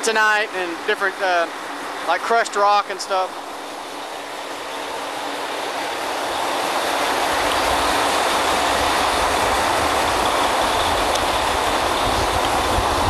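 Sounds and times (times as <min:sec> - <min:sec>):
drilling rig machinery running: 0:00.0 - 0:13.0.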